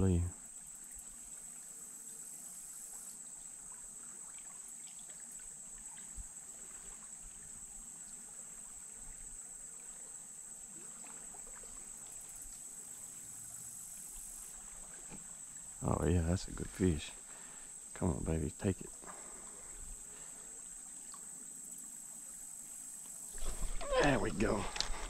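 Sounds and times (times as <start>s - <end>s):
faint trickling water: 0.0s - 25.0s
insect chorus: 0.0s - 25.0s.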